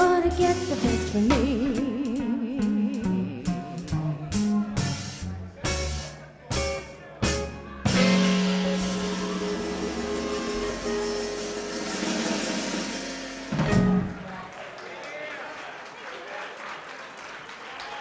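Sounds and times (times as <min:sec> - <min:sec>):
swing band playing: 0:00.0 - 0:14.6.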